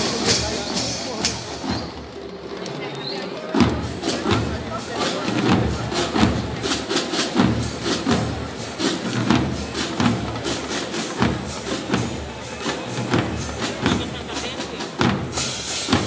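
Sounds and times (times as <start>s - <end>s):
marching band drums: 0.0s - 2.8s, 3.4s - 16.0s.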